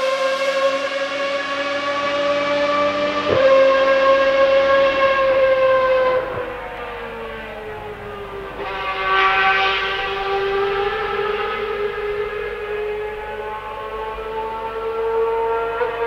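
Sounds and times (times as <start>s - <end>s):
racing car engine high note: 0.0s - 16.0s.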